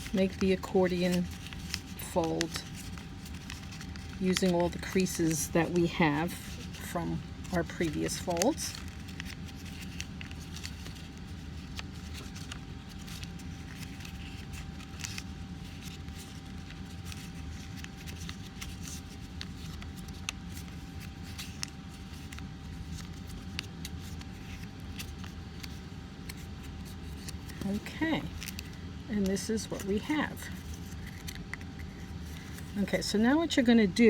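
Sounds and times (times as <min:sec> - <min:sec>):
paper folding and crinkling: 0:00.0 - 0:34.0
steady low hum: 0:00.0 - 0:34.0.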